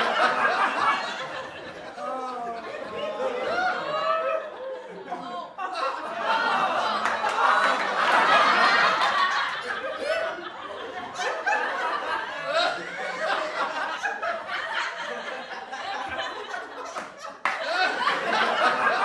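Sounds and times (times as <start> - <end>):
group of people laughing: 0.0 - 19.0.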